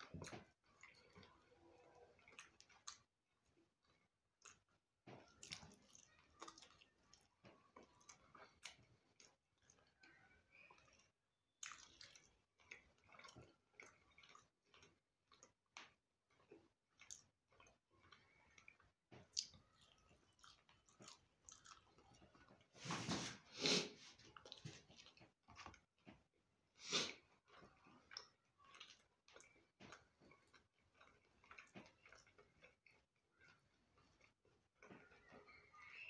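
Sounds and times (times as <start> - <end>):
man chewing food: 0.0 - 35.9.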